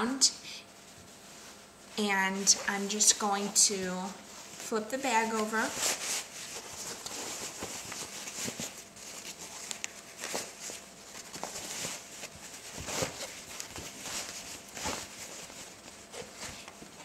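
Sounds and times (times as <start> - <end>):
fabric bag rustling: 0.9 - 17.0.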